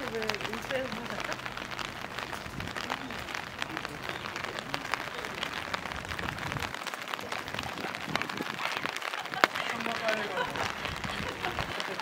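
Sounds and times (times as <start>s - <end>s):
raindrops ticking close by: 0.0s - 12.0s
steady rain: 0.0s - 12.0s.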